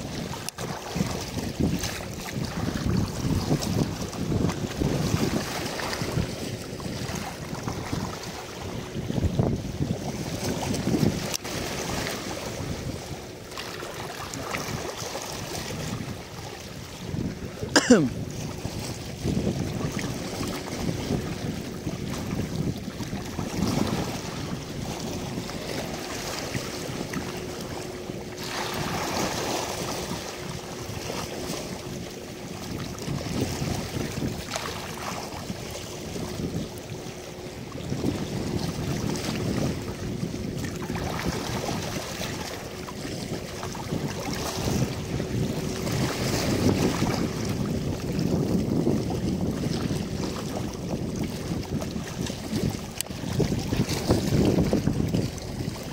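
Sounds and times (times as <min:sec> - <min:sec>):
small waves on rocky shore: 0:00.0 - 0:55.9
wind buffeting microphone: 0:00.0 - 0:55.9.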